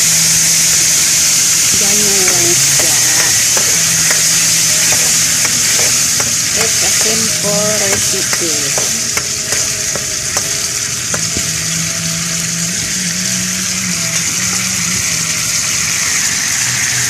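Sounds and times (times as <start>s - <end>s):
fish sizzling in a wok: 0.0s - 17.0s.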